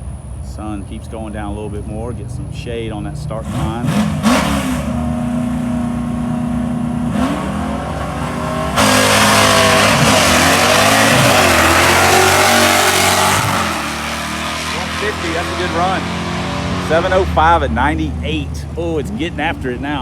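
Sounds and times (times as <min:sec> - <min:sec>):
drag car engine launching: 0:00.5 - 0:18.6.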